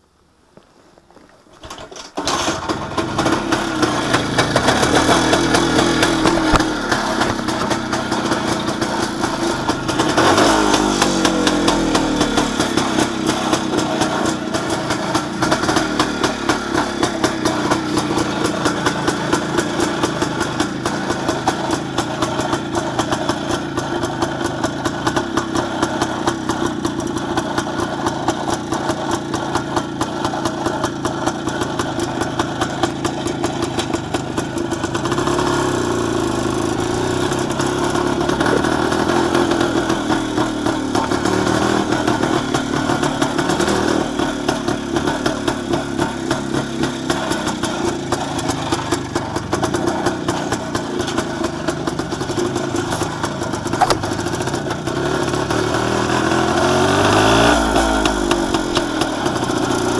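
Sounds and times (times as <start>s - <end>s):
motorcycle engine starting and idling: 1.2s - 59.9s.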